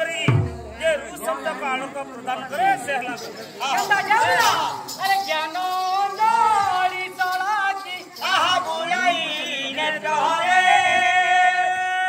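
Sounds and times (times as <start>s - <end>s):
man singing: 0.0s - 1.6s, 3.6s - 12.0s.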